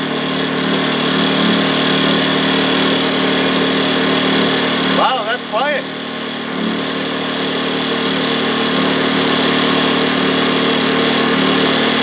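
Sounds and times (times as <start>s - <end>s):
generator humming with hiss: 0.0s - 12.0s.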